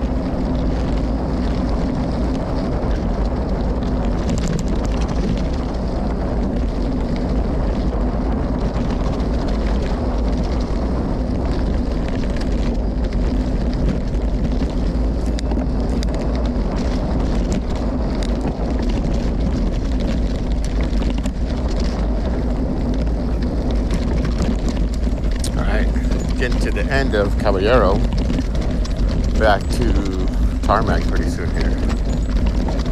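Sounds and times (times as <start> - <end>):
bike rattling over rough ground: 0.0 - 32.9
wind buffeting microphone: 0.0 - 32.9.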